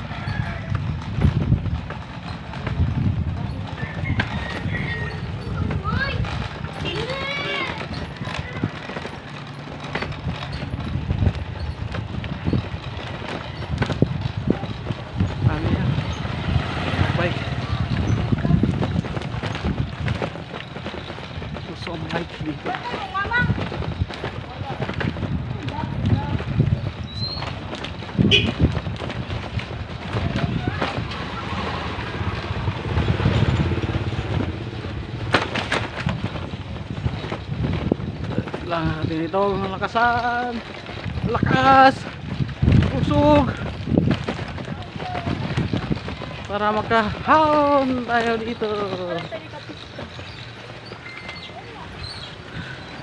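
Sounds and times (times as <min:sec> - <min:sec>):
motorcycle engines passing: 0:00.0 - 0:53.0
small rattles and knocks: 0:00.0 - 0:53.0
wind rumbling on microphone: 0:00.0 - 0:53.0.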